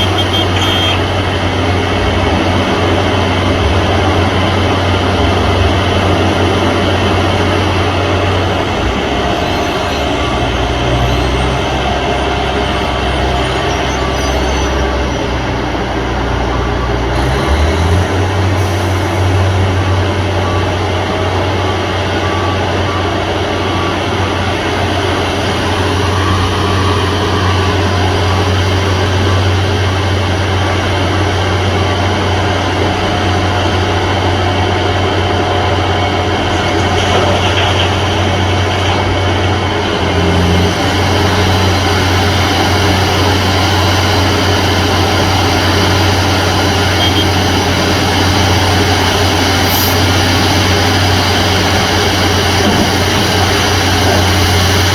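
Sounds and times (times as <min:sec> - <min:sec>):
heavy machinery engine hum: 0:00.0 - 0:54.9.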